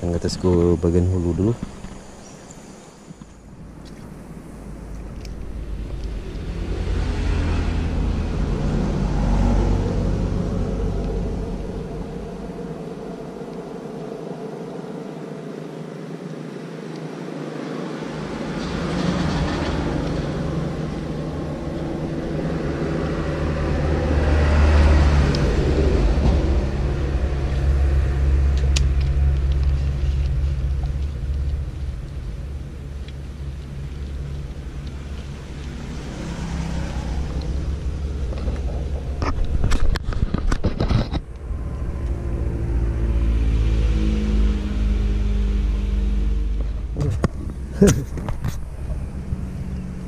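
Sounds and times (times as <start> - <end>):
vehicles passing: 0.0 - 50.0.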